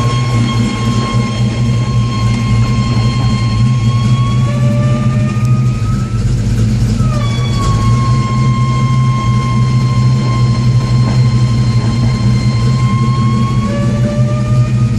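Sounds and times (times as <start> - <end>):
car engine and road drone: 0.0 - 14.9
driveline whine: 0.0 - 14.9.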